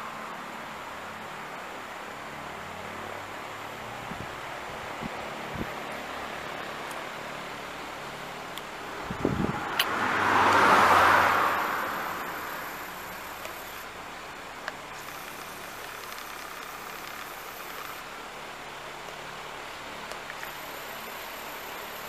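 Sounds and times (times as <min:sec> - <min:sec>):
background ambience: 0:00.0 - 0:22.0
road vehicle passing: 0:00.0 - 0:22.0.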